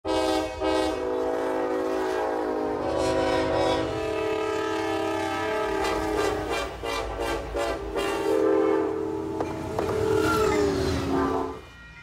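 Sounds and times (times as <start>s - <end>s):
locomotive air horn: 0.0s - 12.0s.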